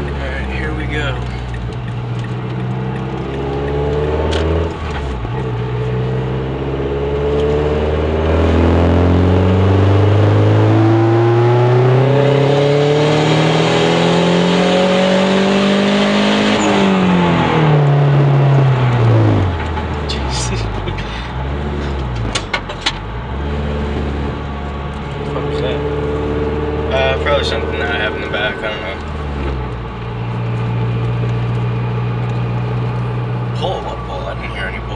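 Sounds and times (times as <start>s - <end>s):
car engine revving at full throttle: 0.0s - 34.9s.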